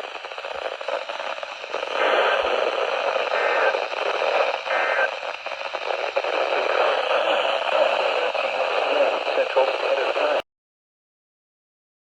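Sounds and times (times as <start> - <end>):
radio static hiss: 0.0 - 10.4.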